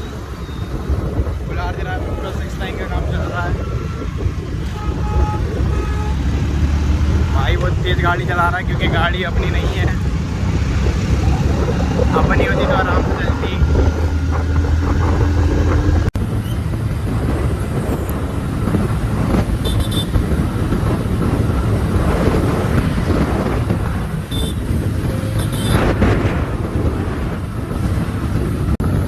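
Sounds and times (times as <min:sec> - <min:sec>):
road and traffic noise: 0:00.0 - 0:29.0
wind rushing over microphone: 0:00.0 - 0:29.0.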